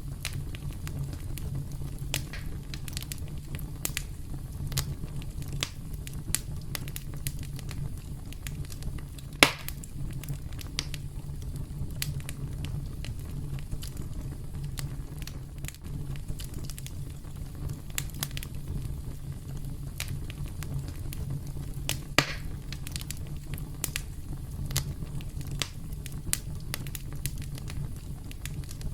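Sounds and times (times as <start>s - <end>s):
burning wood crackling and popping: 0.0s - 28.9s
campfire rumbling: 0.0s - 28.9s.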